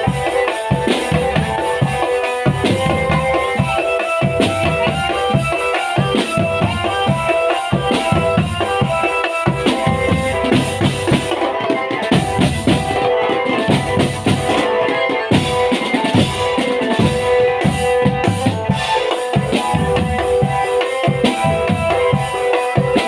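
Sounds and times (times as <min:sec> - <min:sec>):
held melody: 0:00.0 - 0:23.0
marching drum band playing: 0:00.0 - 0:23.0
snare and bass drums: 0:00.0 - 0:23.0.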